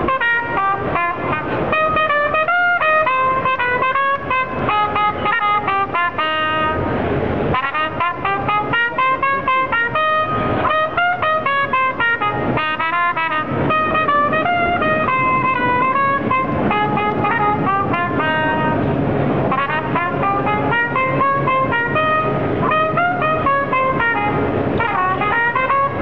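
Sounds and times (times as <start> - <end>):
trumpet melody: 0.0 - 26.0.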